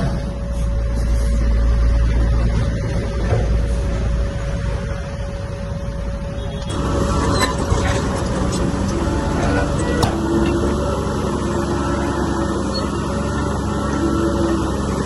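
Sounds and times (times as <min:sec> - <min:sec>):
diesel machinery engine droning: 0:00.0 - 0:15.0.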